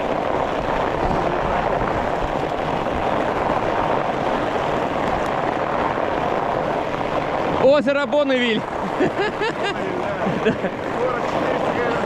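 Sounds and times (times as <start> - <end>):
bike tyres on crusty snow: 0.0 - 12.0
wind on microphone: 0.0 - 12.0.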